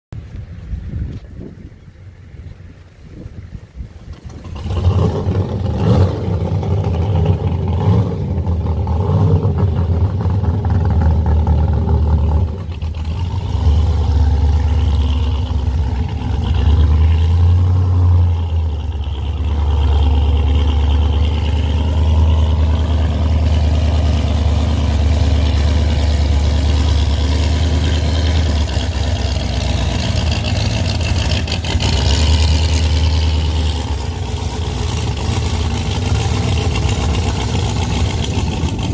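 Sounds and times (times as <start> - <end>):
boat engine revving: 4.1 - 38.9.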